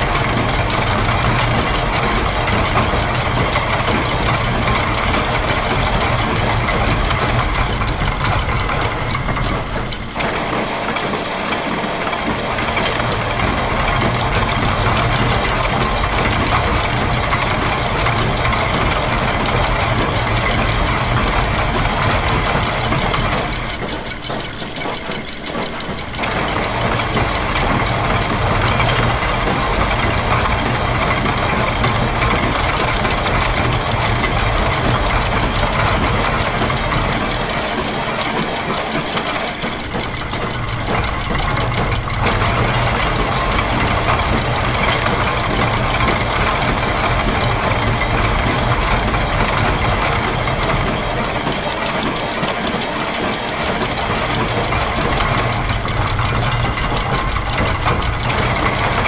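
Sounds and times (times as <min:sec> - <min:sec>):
clattering gears and ratchets: 0:00.0 - 0:59.0.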